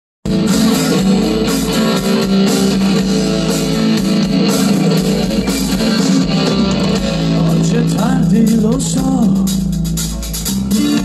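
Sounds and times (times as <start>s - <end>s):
live rock band through speakers: 0.2s - 11.0s.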